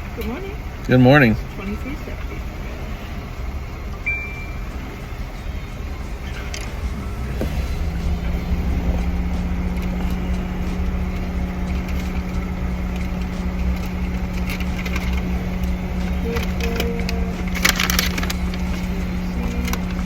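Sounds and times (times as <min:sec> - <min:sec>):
car cabin low rumble: 0:00.0 - 0:20.0
steady hum: 0:00.0 - 0:20.0.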